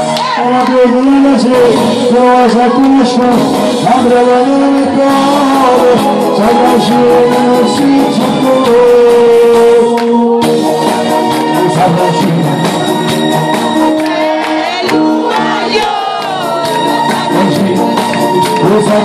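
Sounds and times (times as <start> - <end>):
man singing into a microphone: 0.0 - 13.2, 14.8 - 19.0
amplified backing music with beat: 0.0 - 19.0.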